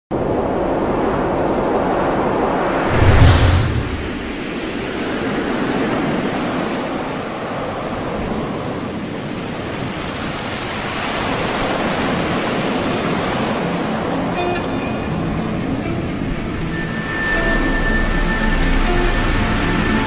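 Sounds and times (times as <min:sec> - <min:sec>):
waves breaking: 0:01.8 - 0:20.0.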